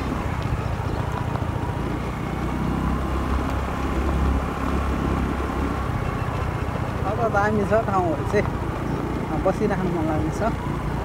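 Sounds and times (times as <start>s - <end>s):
motorbike engine rumble: 0.0s - 11.0s
road and wind noise: 0.0s - 11.0s.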